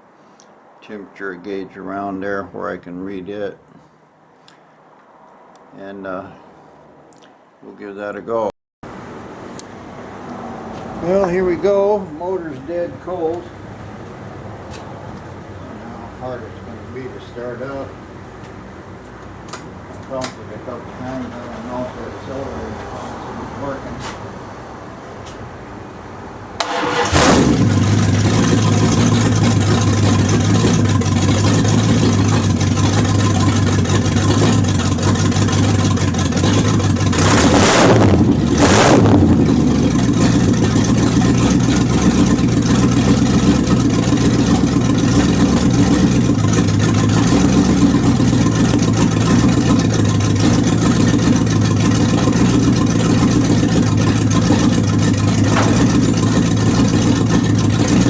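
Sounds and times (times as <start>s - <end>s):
car engine starting and idling: 8.9s - 24.9s, 25.8s - 58.0s.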